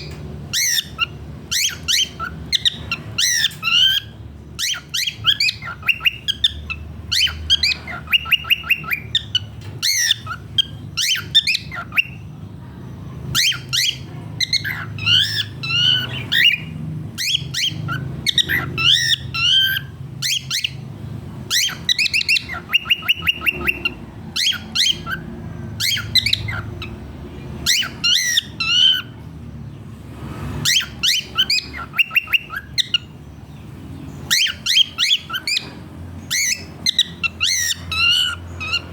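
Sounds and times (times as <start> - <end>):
cockatiel chirps and squawks: 0.0 - 12.3, 13.3 - 20.8, 21.4 - 25.2, 25.8 - 27.0, 27.6 - 29.2, 30.6 - 33.1, 34.2 - 38.9.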